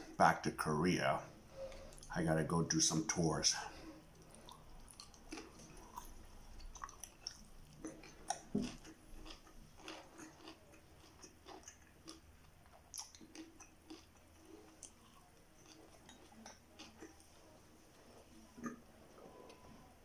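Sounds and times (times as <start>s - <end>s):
man chewing food: 1.2s - 2.2s, 2.9s - 20.0s.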